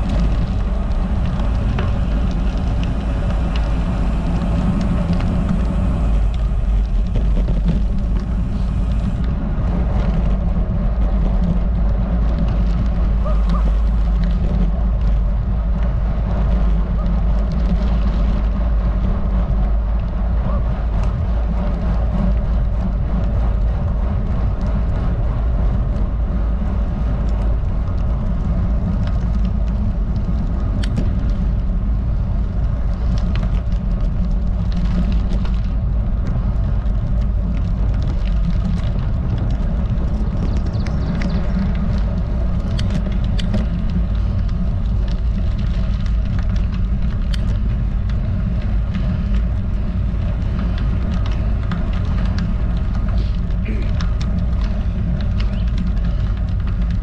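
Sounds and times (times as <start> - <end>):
bike tyres rolling on asphalt: 0.0 - 57.0
wind buffeting microphone: 0.0 - 57.0.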